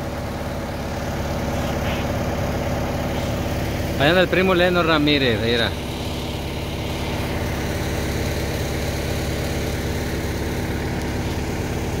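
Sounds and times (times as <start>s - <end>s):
chipper engine running: 0.0s - 12.0s.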